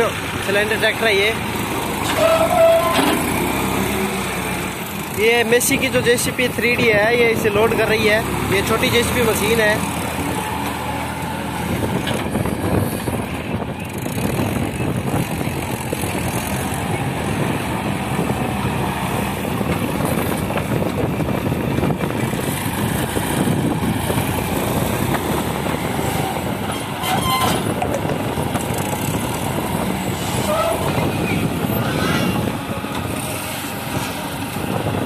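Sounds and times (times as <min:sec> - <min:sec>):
tractor diesel engines running: 0:00.0 - 0:35.0.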